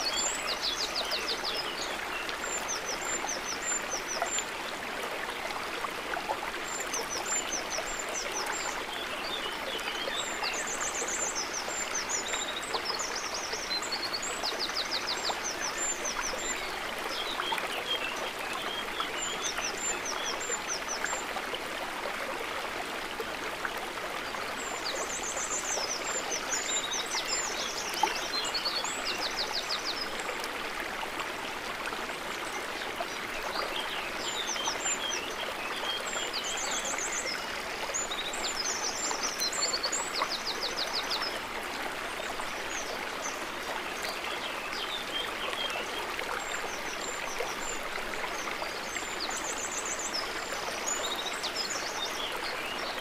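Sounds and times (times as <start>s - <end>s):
water trickling and gurgling: 0.0s - 53.0s.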